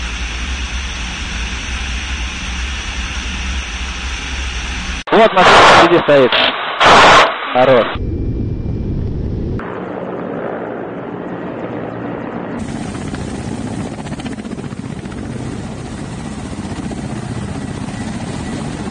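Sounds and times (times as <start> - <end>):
helicopter rotor beat: 0.0 - 5.0, 8.0 - 18.9.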